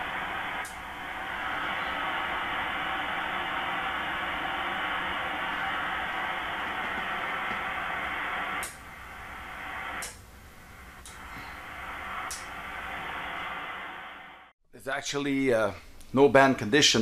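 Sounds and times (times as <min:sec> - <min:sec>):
radio static hiss: 0:00.0 - 0:14.5.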